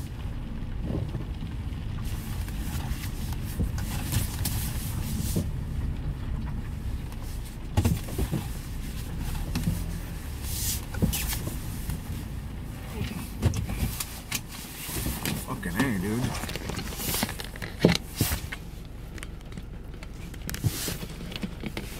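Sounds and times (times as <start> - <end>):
rain on a car roof: 0.0 - 21.9
steady low rumble: 0.0 - 21.9.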